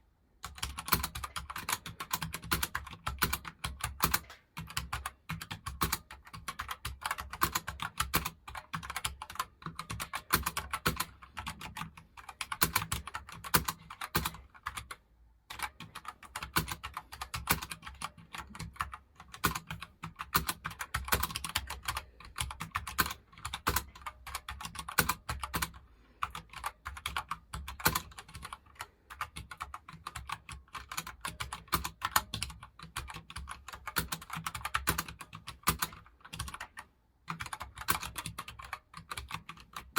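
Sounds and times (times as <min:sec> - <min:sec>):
fast typing on keyboard: 0:00.4 - 0:39.9.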